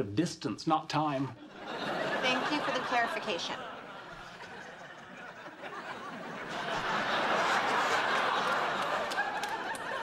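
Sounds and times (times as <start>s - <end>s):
studio audience laughing: 1.4s - 10.0s.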